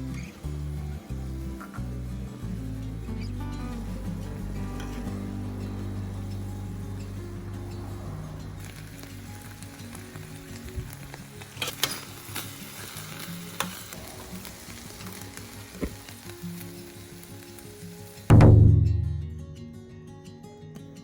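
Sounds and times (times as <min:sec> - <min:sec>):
food sizzling in a pan: 0:00.0 - 0:18.3.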